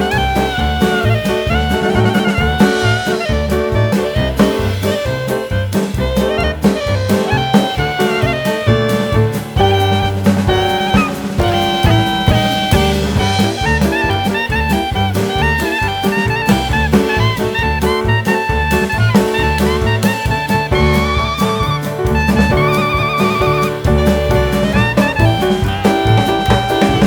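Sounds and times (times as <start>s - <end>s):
upbeat jazz with saxophone: 0.0s - 27.0s.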